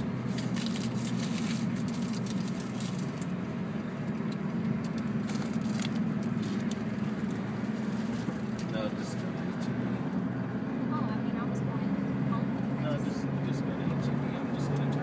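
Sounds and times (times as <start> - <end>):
car cabin driving drone: 0.0 - 15.0.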